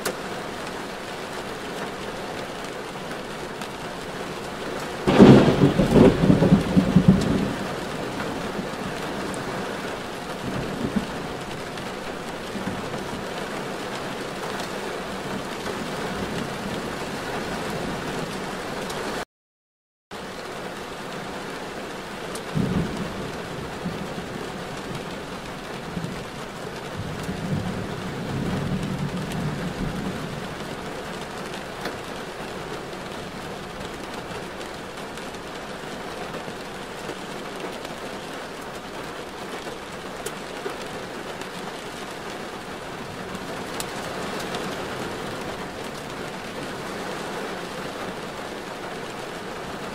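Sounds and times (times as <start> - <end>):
steady rain hiss: 0.0 - 19.2, 20.2 - 49.9.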